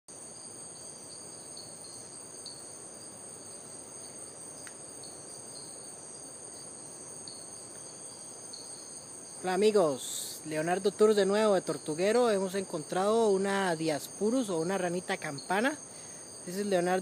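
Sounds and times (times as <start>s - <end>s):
insect chorus: 0.1s - 17.0s.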